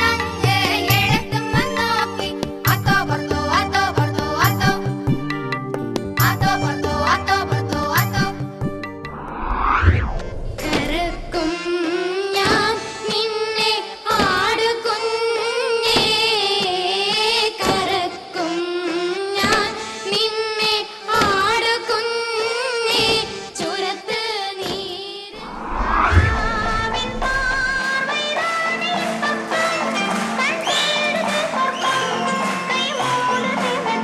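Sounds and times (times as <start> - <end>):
girl singing: 0.0 - 4.9, 6.2 - 8.5, 10.6 - 34.0
music: 0.0 - 34.0.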